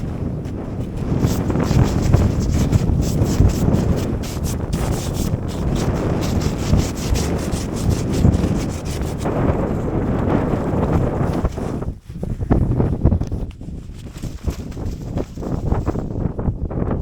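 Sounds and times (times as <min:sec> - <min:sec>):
wind noise on microphone: 0:00.0 - 0:17.0
scraping and rubbing strokes: 0:00.5 - 0:16.3.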